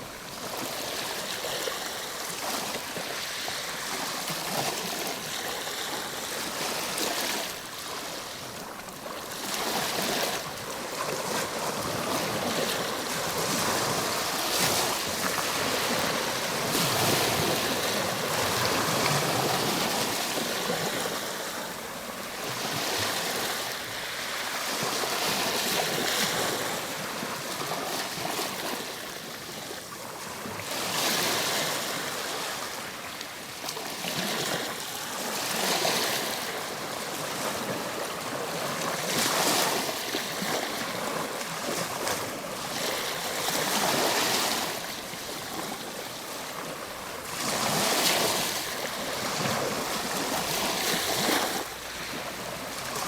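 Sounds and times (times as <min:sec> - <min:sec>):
ocean waves washing on shore: 0:00.0 - 0:53.0.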